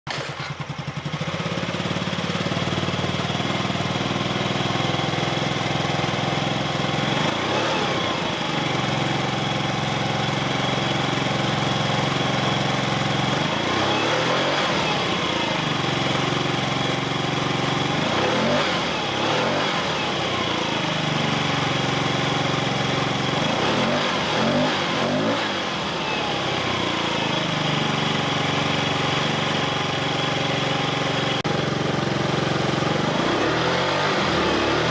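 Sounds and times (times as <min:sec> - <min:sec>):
scooter engine idling: 0:00.1 - 0:34.9.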